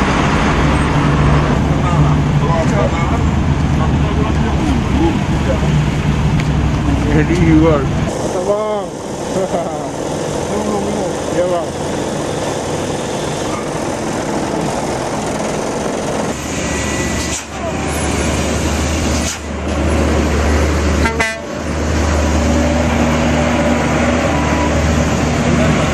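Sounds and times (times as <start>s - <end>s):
heavy truck engine drone: 0.0s - 25.9s
road noise: 0.0s - 25.9s.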